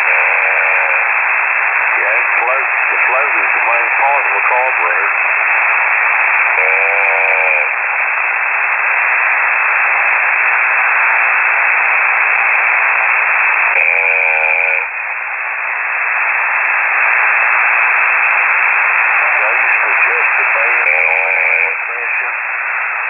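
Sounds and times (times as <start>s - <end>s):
shortwave radio hiss: 0.0s - 23.0s.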